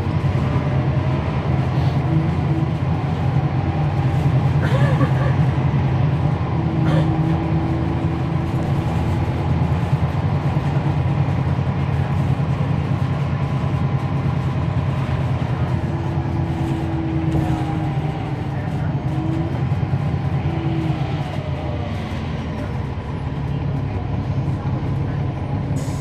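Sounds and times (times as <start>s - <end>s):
bus diesel engine droning: 0.0s - 26.0s.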